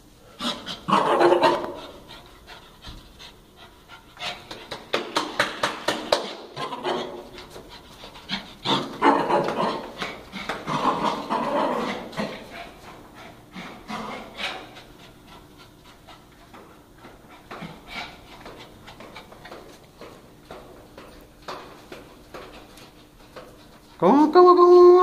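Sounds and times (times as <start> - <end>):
running footsteps: 0.7 - 25.0
person panting hard: 1.7 - 24.0.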